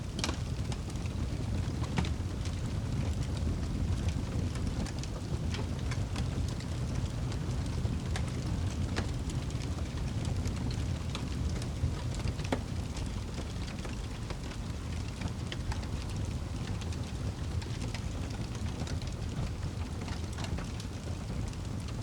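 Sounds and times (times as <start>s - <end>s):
fire crackling: 0.0s - 22.0s.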